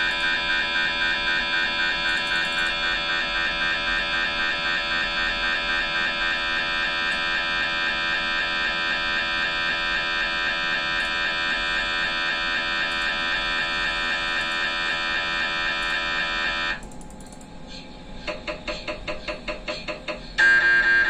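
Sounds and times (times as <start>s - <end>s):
mri scanner pulsing buzz: 0.0s - 21.0s.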